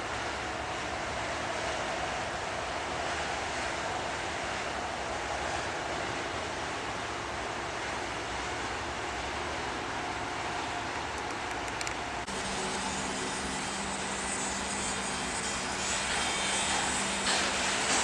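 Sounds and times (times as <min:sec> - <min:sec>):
broad rush of noise: 0:00.0 - 0:18.0
machinery engine hum: 0:00.0 - 0:18.0.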